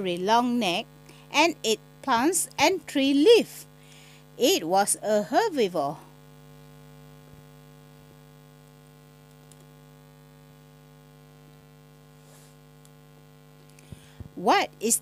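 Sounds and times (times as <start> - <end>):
faint mains hum: 0.0 - 15.0.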